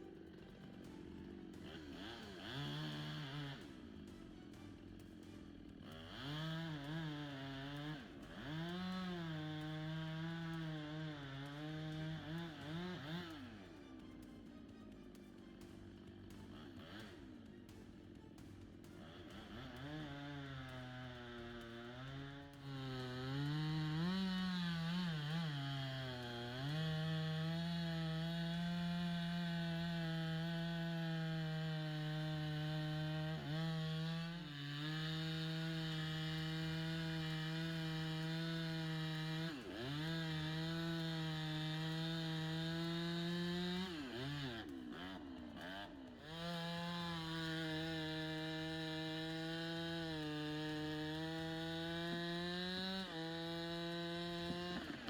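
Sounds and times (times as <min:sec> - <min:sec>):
chainsaw running at high speed: 0:00.0 - 0:55.0.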